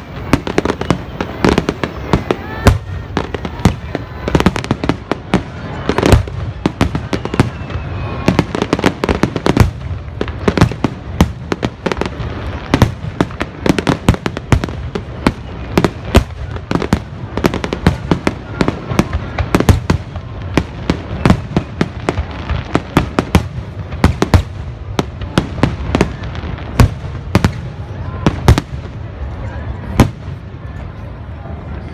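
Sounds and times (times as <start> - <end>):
fireworks bursting: 0.0 - 31.1.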